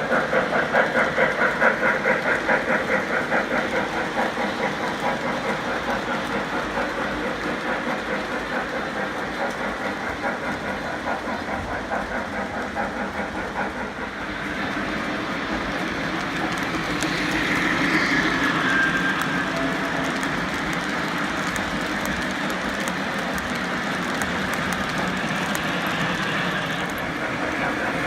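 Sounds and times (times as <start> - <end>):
model train wheels clicking: 0.0 - 28.0.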